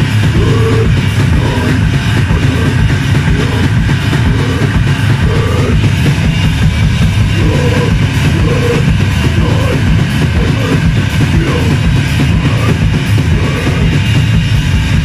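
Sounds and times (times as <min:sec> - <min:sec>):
bass guitar: 0:00.0 - 0:15.0
distorted electric guitar: 0:00.0 - 0:15.0
drum kit: 0:00.0 - 0:15.0.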